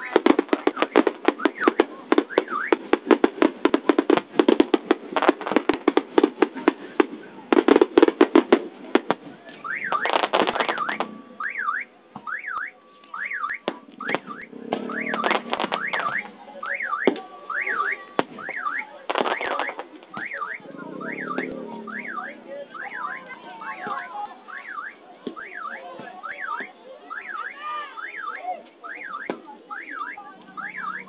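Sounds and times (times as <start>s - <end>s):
firework whistles: 0.0s - 6.3s, 9.6s - 23.8s, 24.5s - 31.0s
fireworks banging: 0.0s - 31.0s.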